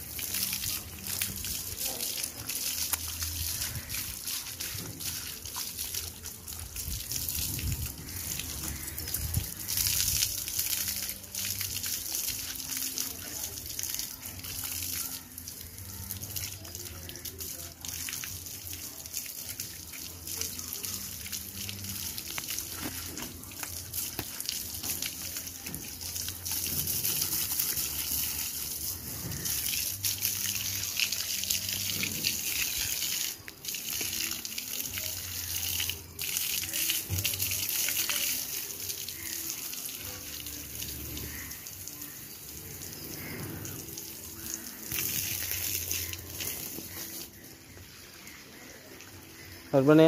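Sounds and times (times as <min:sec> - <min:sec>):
hose water spraying and splashing: 0:00.0 - 0:50.0.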